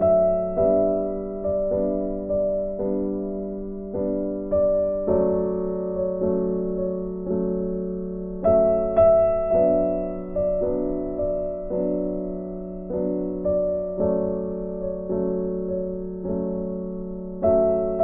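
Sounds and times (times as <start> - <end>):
slow gentle keyboard chords: 0.0 - 18.0.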